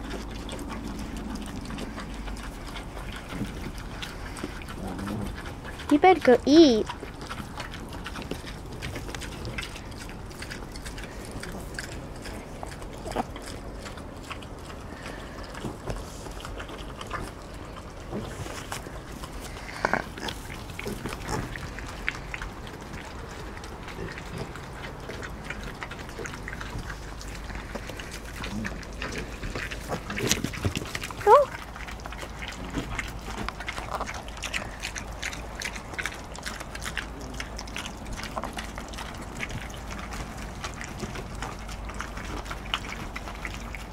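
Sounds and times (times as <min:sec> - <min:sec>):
piglets grunting and snuffling: 0:00.0 - 0:43.9.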